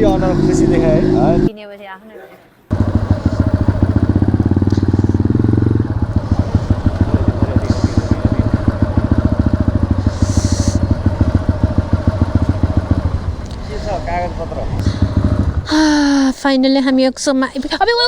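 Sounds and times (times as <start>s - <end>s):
motorcycle engine idling: 0.0s - 1.5s, 2.7s - 16.3s.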